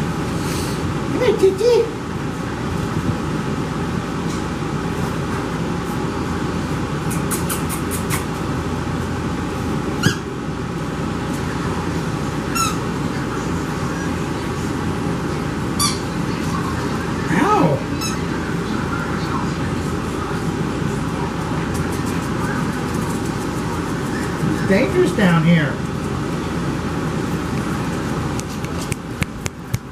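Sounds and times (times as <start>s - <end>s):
steady background noise: 0.0s - 29.9s.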